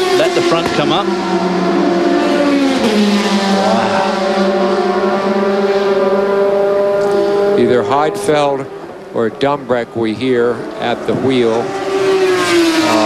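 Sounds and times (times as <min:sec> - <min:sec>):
race car engine at high revs: 0:00.0 - 0:13.0.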